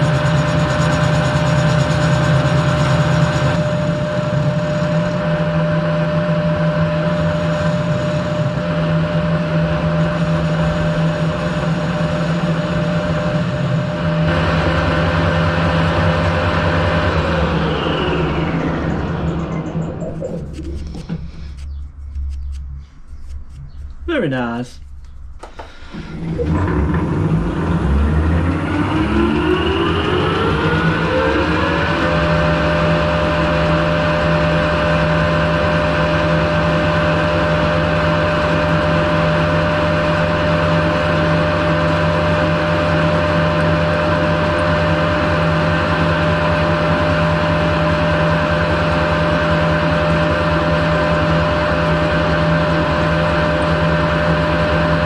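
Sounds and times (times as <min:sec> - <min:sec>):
lathe motor whining: 0:00.0 - 0:24.0, 0:25.3 - 0:55.0.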